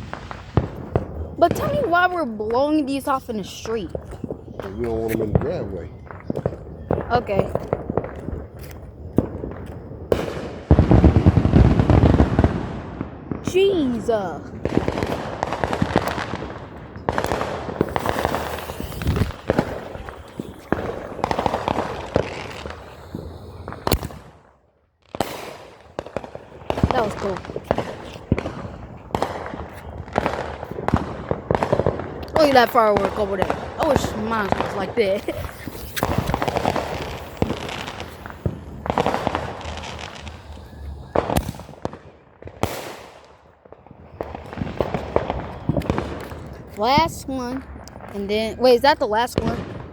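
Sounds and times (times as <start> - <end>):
fireworks crackling: 0.0 - 49.9
fireworks pops and bangs: 0.0 - 49.9.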